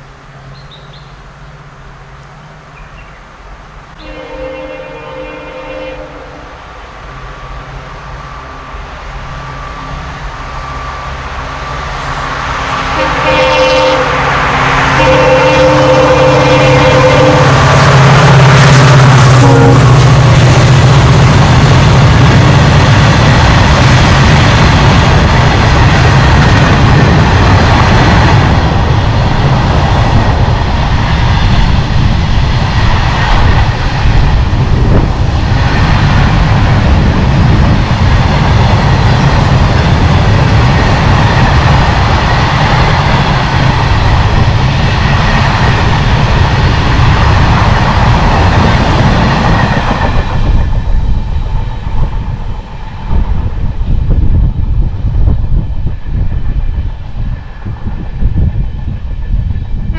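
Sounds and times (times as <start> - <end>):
freight wagons rumbling on rails: 0.0 - 59.9.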